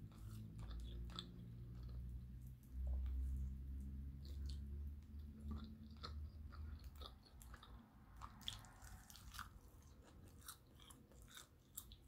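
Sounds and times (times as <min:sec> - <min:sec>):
chewing crunchy fried chicken: 0:00.0 - 0:12.0.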